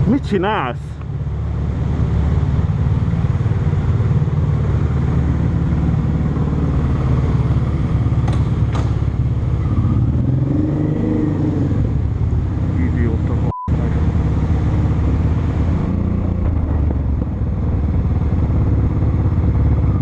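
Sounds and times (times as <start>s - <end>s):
motorcycle engine running: 1.0s - 10.4s, 11.4s - 20.0s.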